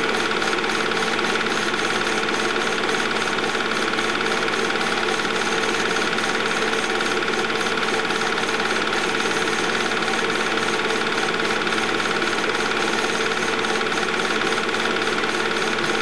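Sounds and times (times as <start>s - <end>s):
film projector clatter: 0.0s - 16.0s.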